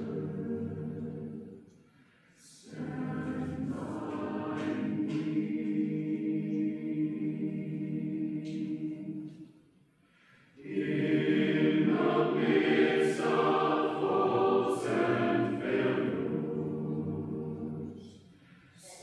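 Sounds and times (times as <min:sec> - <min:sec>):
choir singing a cappella: 0:00.0 - 0:09.6, 0:10.3 - 0:19.0.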